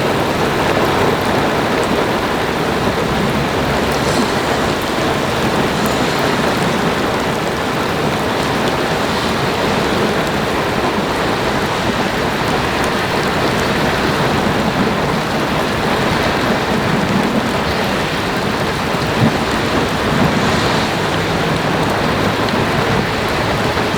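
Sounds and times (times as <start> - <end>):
rough lake water: 0.0 - 23.9
strong wind rushing: 0.0 - 23.9
wind rumble on microphone: 0.0 - 23.9.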